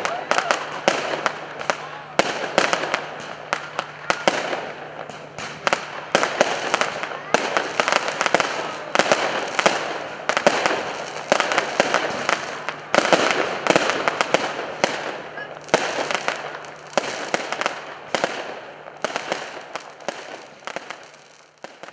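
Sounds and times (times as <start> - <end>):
firecrackers cracking and popping: 0.0 - 21.9.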